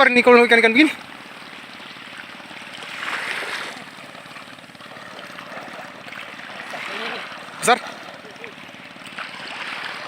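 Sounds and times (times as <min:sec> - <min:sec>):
water rushing along shore: 0:00.0 - 0:10.0.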